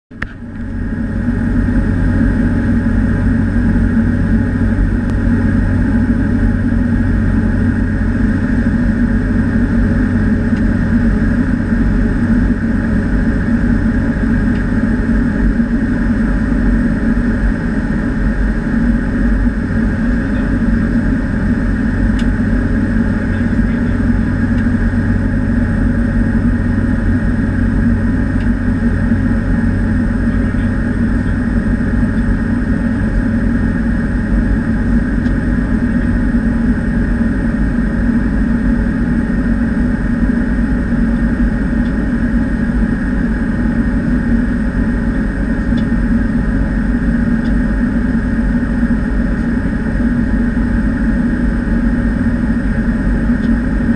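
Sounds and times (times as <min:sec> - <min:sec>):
turboprop engine drone in cockpit: 0:00.0 - 0:53.9.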